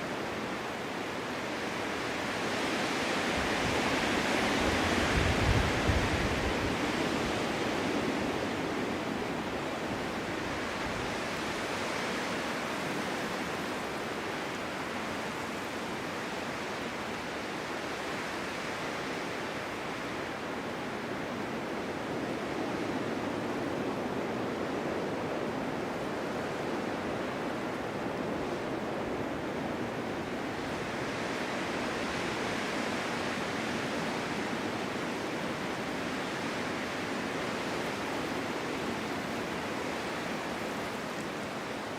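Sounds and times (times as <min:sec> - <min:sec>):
wind blowing through forest: 0:00.0 - 0:41.9.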